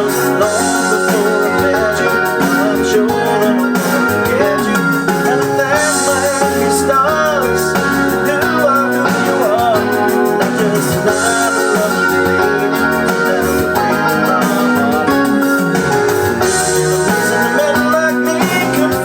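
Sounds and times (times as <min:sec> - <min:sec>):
keyboard midi backing track: 0:00.0 - 0:19.0.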